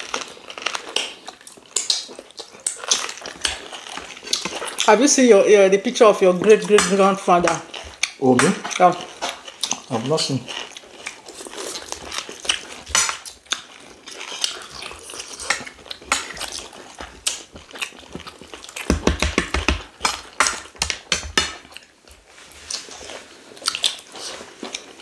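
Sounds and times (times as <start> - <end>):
chewing: 0.0 - 25.0.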